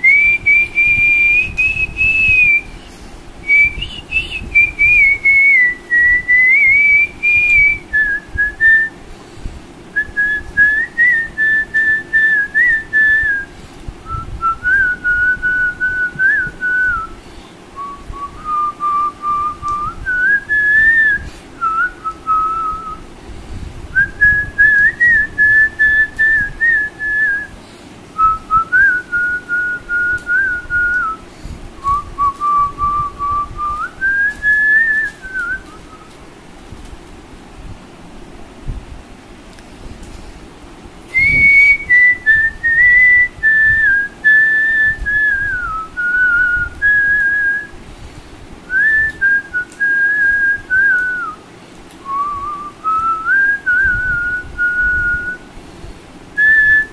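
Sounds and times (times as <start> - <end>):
man whistling a melody: 0.0 - 9.0, 9.9 - 17.2, 17.8 - 23.1, 23.9 - 27.5, 28.2 - 31.2, 31.8 - 36.2, 41.1 - 47.8, 48.7 - 51.4, 52.0 - 55.4, 56.4 - 56.9.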